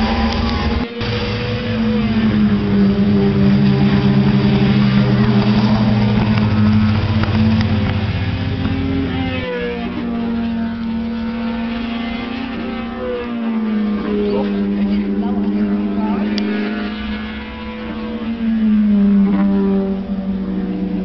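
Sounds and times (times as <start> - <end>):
racing car engine running: 0.0 - 21.0.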